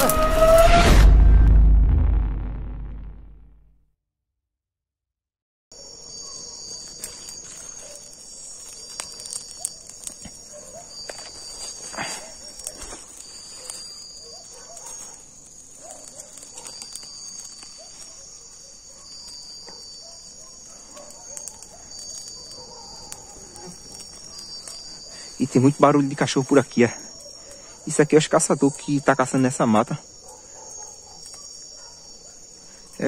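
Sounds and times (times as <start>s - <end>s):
wet leaves fire crackling: 0.0s - 1.2s, 5.8s - 33.0s
crickets and night insects chorus: 5.7s - 33.0s
distant dogs barking: 5.8s - 33.0s.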